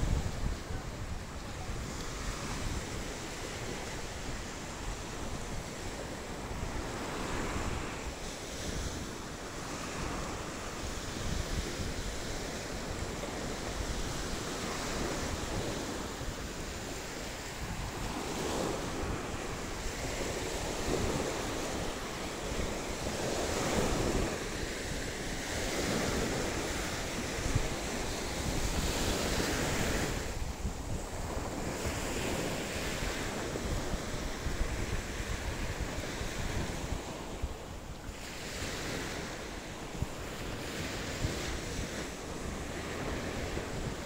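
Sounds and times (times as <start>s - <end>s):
sea waves breaking on beach: 0.0s - 44.0s
wind rumbling on microphone: 0.0s - 44.0s.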